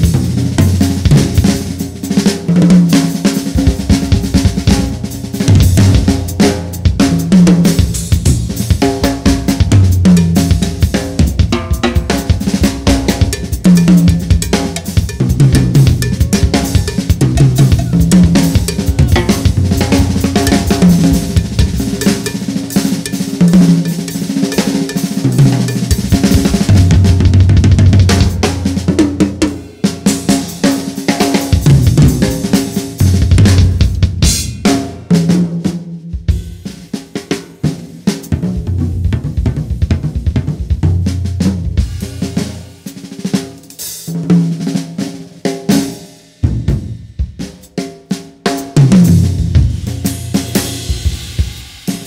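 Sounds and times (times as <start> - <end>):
drum kit played fast: 0.0 - 52.0.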